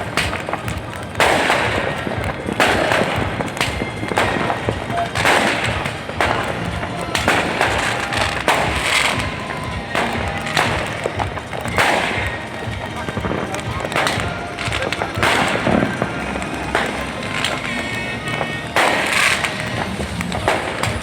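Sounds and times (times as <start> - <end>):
fireworks bursting: 0.0 - 21.0
music playing: 0.0 - 21.0.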